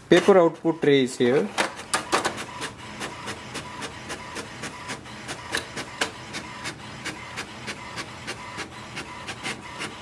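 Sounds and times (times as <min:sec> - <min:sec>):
inkjet printer clicking: 0:01.6 - 0:10.0.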